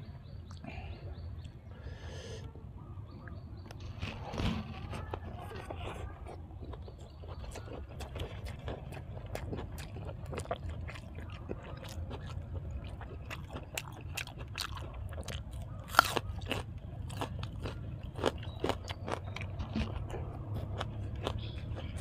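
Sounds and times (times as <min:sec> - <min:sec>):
person chewing crunchy food: 0:03.2 - 0:22.0.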